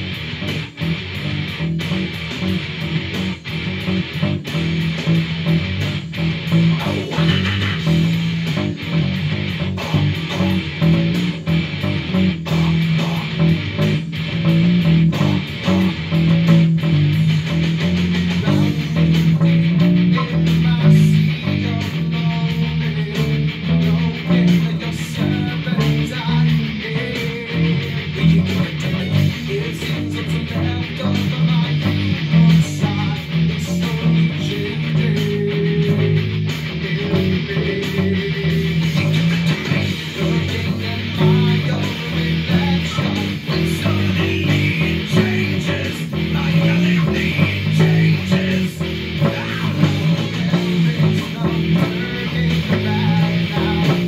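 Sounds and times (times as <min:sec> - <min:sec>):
electric bass guitar: 0:00.0 - 0:54.0
heavy metal track with drums: 0:00.0 - 0:54.0.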